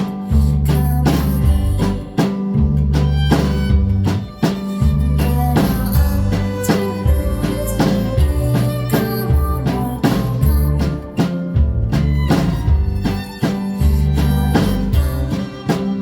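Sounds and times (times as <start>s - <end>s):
live pop band playing: 0.0s - 16.0s
deep bass notes: 0.2s - 16.0s.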